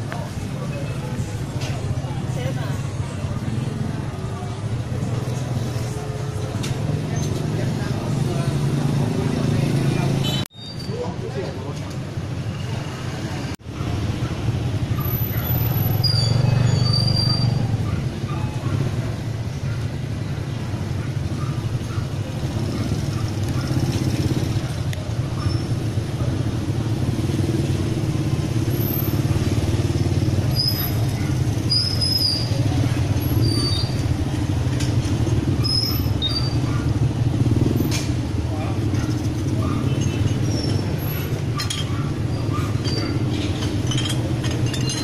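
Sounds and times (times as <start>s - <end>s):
street traffic rumble: 0.0s - 45.0s.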